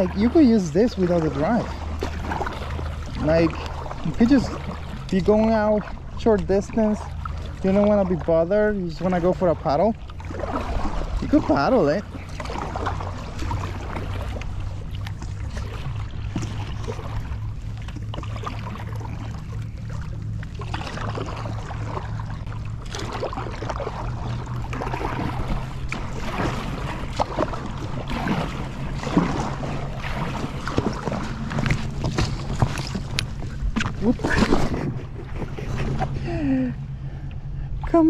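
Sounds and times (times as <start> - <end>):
kayak paddle strokes in water: 0.0 - 38.0
steady low hum: 0.0 - 38.0.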